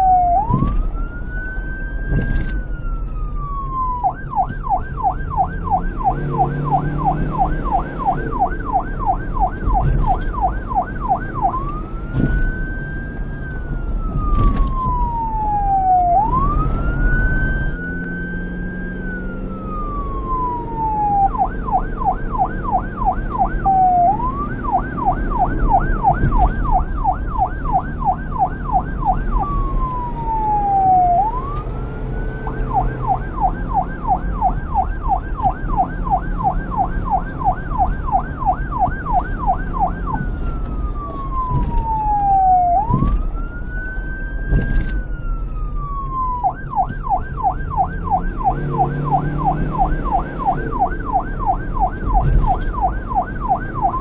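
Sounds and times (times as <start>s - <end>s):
police siren wail and yelp: 0.0s - 54.0s.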